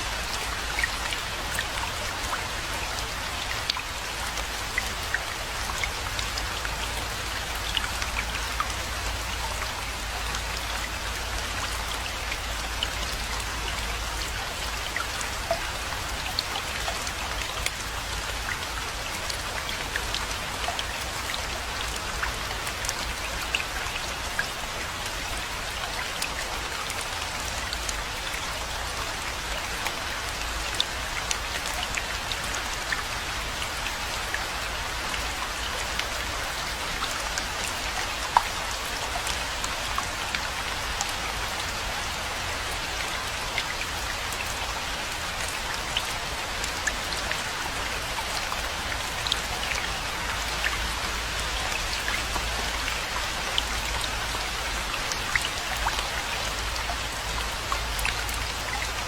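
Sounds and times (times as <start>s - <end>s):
raindrops ticking: 0.0s - 59.0s.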